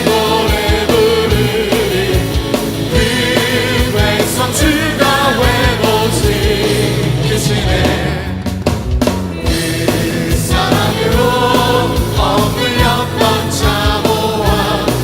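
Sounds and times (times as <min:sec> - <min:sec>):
worship singing: 0:00.0 - 0:08.6, 0:09.5 - 0:15.0
full band playing: 0:00.0 - 0:15.0
steady drum beat: 0:00.0 - 0:15.0.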